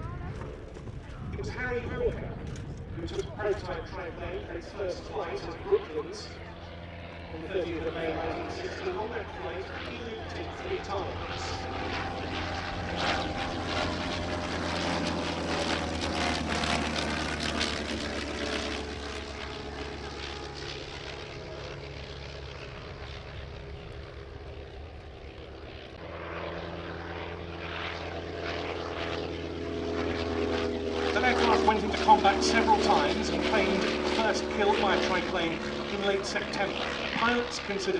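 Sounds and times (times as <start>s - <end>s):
aircraft rotary engine and propeller: 0.0s - 37.9s.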